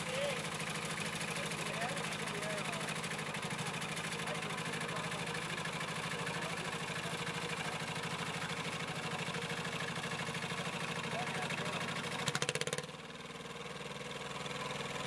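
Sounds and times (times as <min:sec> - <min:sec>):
small engine puttering: 0:00.0 - 0:15.0.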